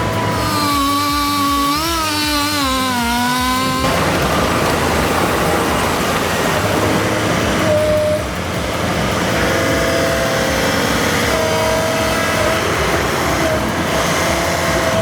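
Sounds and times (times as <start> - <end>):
heavy machine engine running: 0.0 - 15.0
high whine: 0.0 - 15.0.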